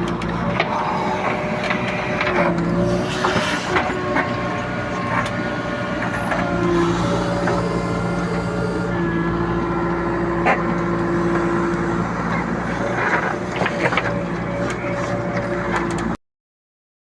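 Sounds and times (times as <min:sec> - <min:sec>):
diesel engine running: 0:00.0 - 0:16.2.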